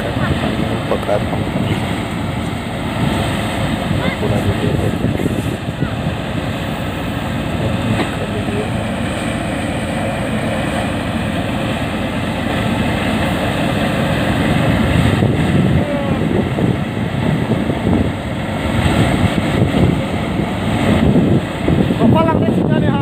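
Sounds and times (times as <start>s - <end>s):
paddy thresher running: 0.0s - 23.0s.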